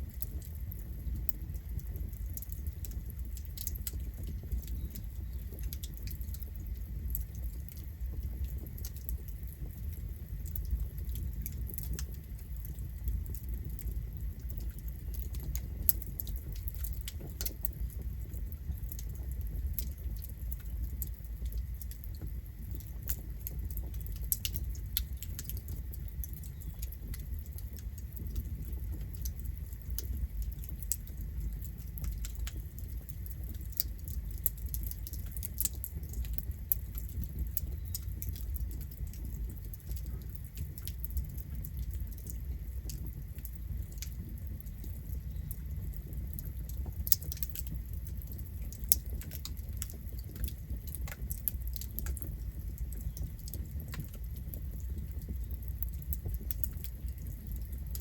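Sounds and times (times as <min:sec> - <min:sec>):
fire low rumble: 0:00.0 - 0:58.0
wood crackling and popping: 0:00.0 - 0:58.0.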